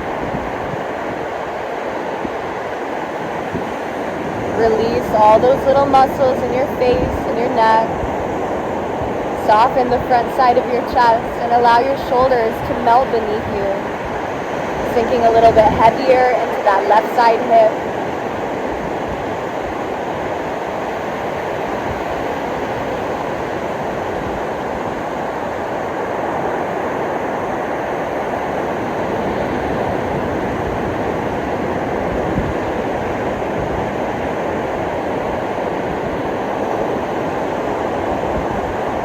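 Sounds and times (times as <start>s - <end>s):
ocean surf on a beach: 0.0s - 39.0s.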